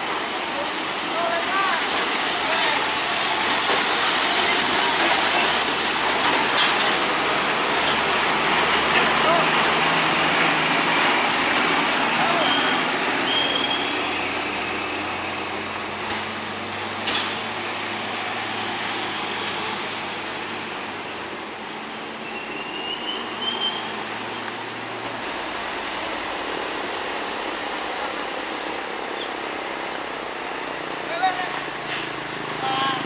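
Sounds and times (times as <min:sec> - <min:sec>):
road and tyre noise: 0:00.0 - 0:33.0
diesel truck engine drone: 0:01.9 - 0:33.0.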